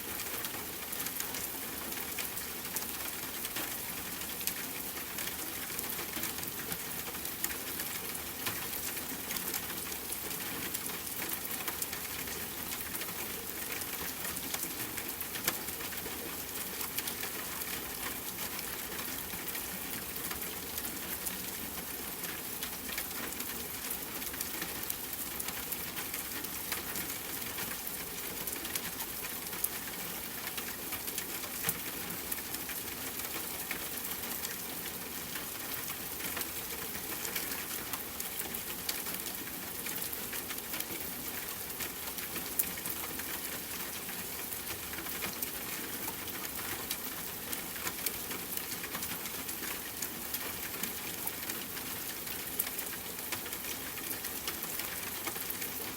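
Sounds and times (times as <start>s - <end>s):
rain pattering on a tent: 0.0s - 55.9s.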